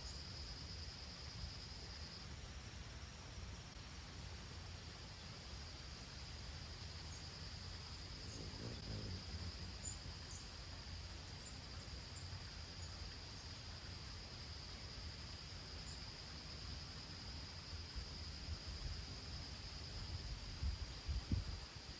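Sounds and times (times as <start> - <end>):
high-pitched insect chorus: 0.0 - 21.9.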